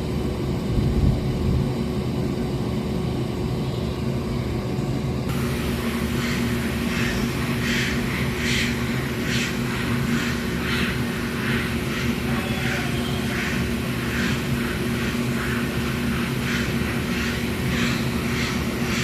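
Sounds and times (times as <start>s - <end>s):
machine hum with two tones: 0.0s - 19.0s.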